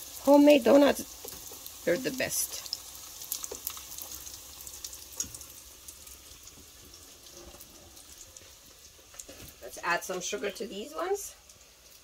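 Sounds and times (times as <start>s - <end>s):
donuts sizzling in hot oil: 0.0s - 12.0s.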